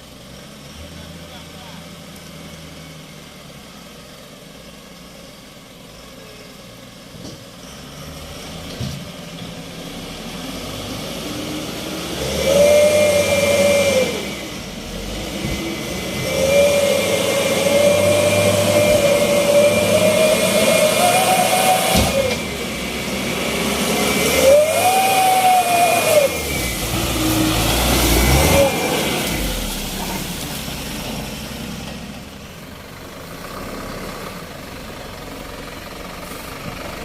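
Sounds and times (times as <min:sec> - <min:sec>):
heavy diesel engine revving: 0:00.0 - 0:37.0
loud steady engine whine: 0:05.5 - 0:37.0.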